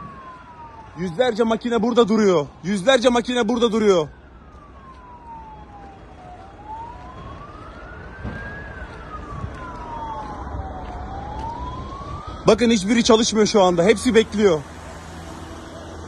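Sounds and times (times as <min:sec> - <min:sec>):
emergency vehicle siren wailing: 0:00.0 - 0:16.0
low traffic rumble: 0:00.0 - 0:16.0.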